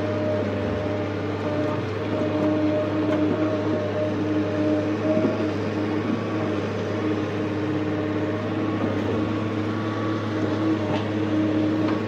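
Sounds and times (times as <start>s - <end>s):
excavator engine drone: 0.0s - 12.0s.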